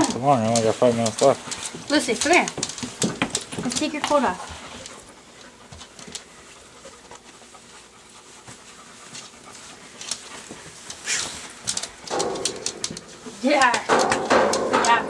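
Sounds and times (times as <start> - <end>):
dog panting: 0.0 - 13.7.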